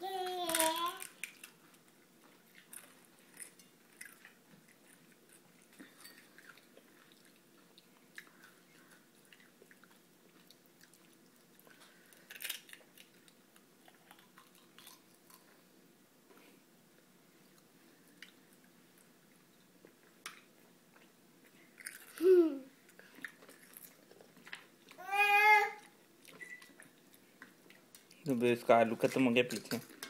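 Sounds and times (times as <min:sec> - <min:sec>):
child chewing crisp food: 0:00.2 - 0:15.6, 0:17.5 - 0:28.2.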